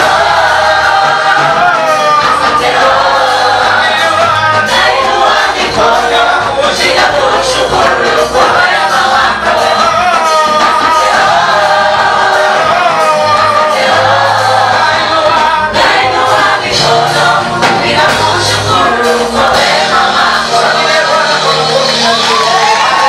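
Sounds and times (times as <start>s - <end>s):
gospel choir singing: 0.0s - 23.0s
instrumental accompaniment: 0.0s - 23.0s.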